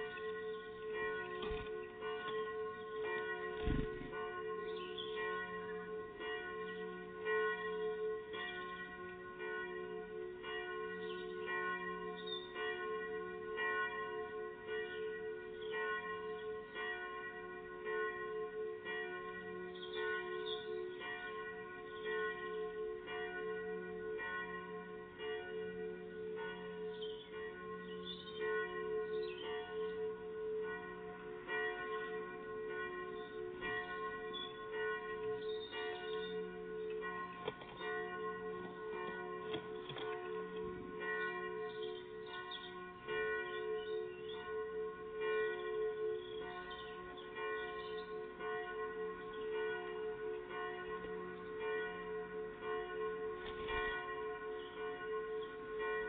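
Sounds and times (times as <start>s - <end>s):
bells ringing: 0.0s - 56.0s.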